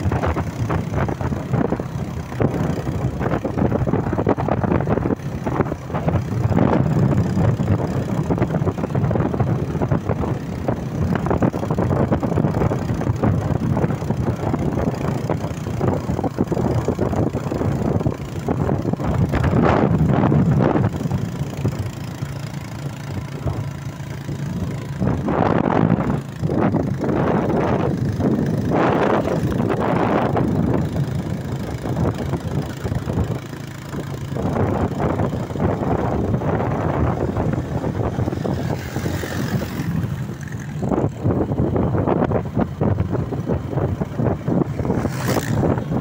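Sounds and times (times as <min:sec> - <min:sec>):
motorcycle engine surging: 0:00.0 - 0:46.0
wind noise on microphone: 0:00.0 - 0:46.0.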